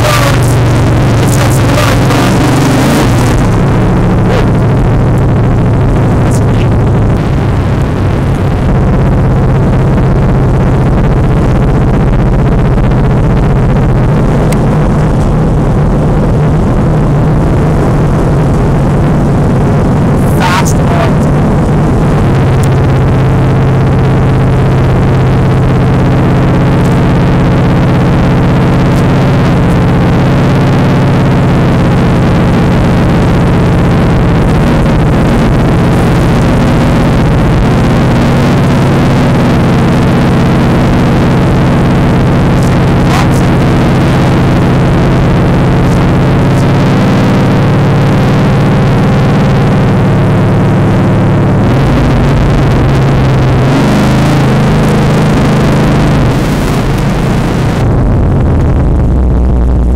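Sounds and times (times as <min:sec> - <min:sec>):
loud car engine running: 0:00.0 - 0:59.9.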